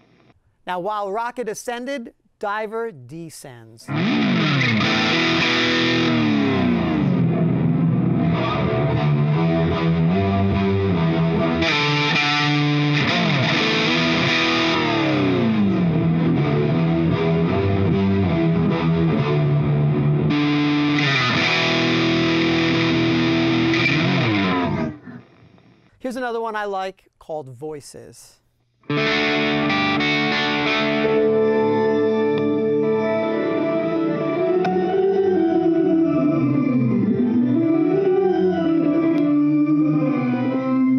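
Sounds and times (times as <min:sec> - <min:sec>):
distorted electric guitar pitch dives: 0:03.9 - 0:25.5, 0:28.9 - 0:40.9.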